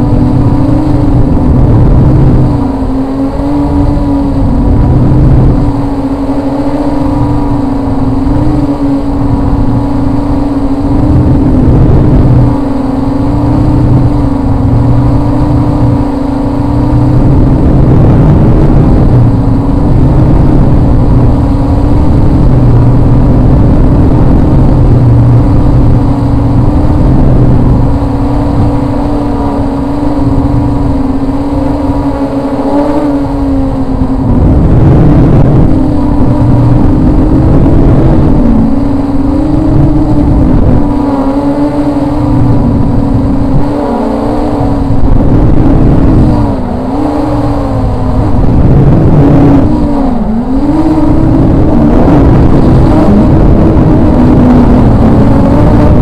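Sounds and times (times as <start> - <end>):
drone propellers humming: 0.0 - 56.0
wind rumble on microphone: 0.0 - 56.0.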